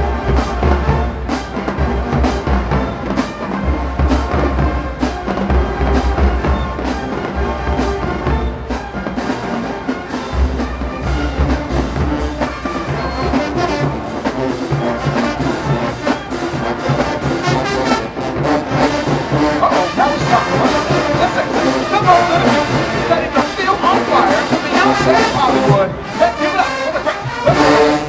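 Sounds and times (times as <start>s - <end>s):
brass section playing: 0.0s - 28.0s
drum line beat: 0.0s - 28.0s.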